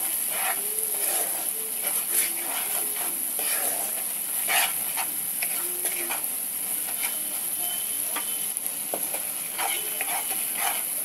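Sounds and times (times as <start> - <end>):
spices sizzling in oil: 0.0 - 11.0
wooden spatula scraping a pan: 0.0 - 11.0.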